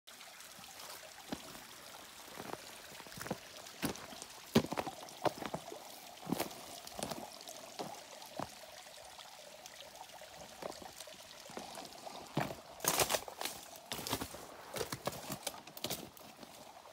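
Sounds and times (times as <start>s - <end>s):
water dripping and splashing: 0.1s - 16.9s
water trickling down rock: 0.1s - 16.9s.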